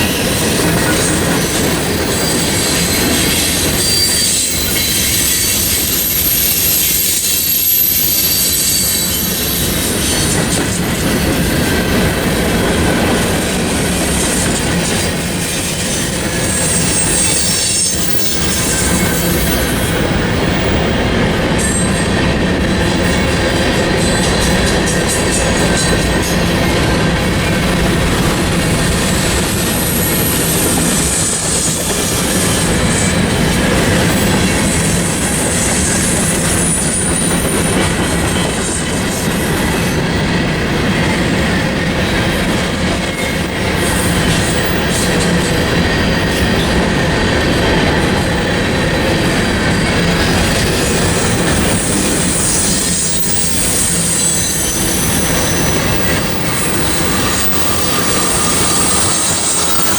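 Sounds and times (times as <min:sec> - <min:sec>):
freight train cars rumbling: 0:00.0 - 0:59.9
wheels squealing on rail: 0:00.0 - 0:59.9.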